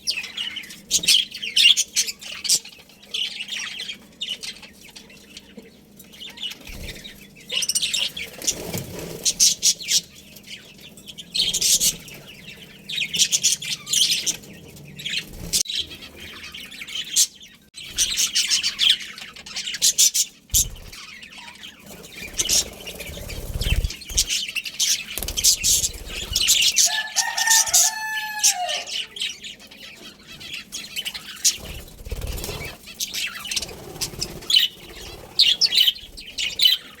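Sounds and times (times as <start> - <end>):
budgerigars chattering: 0.1 - 37.0.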